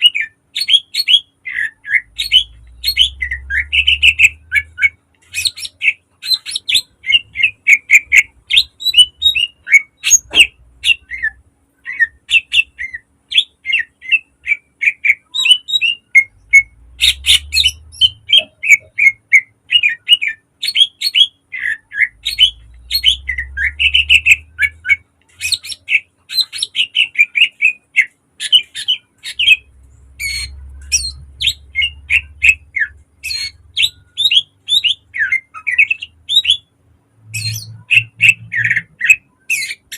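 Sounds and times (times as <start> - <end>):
bird singing trills and whistles: 0.0 - 36.7, 37.3 - 39.9.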